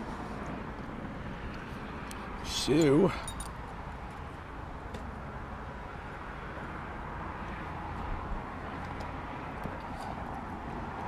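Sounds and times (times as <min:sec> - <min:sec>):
distant traffic: 0:00.0 - 0:11.0.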